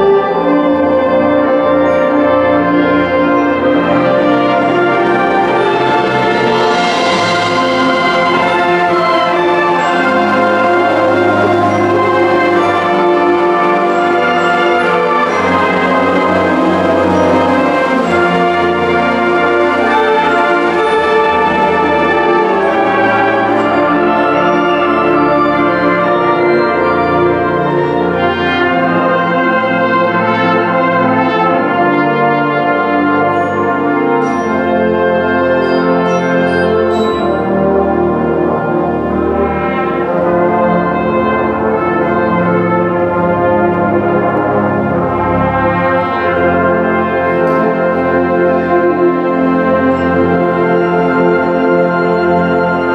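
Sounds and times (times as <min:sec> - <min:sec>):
concert band playing held chords: 0:00.0 - 0:52.9.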